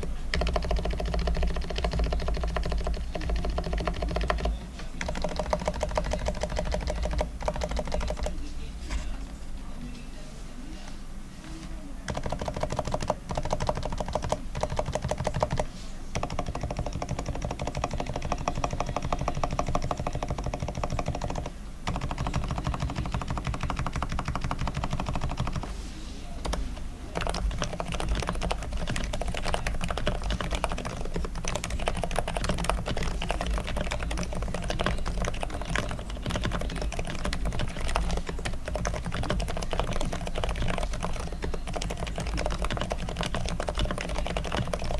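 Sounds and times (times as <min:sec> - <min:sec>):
keyboard typing: 0:00.0 - 0:08.5, 0:12.1 - 0:44.9.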